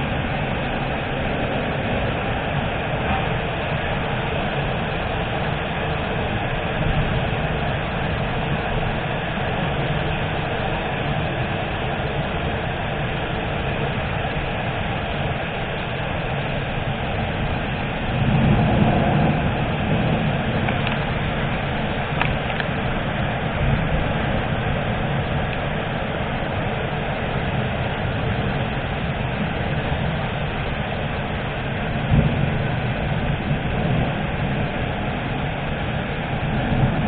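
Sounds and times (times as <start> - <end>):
heavy rain: 0.0 - 37.0
thunder rumble: 0.0 - 37.0.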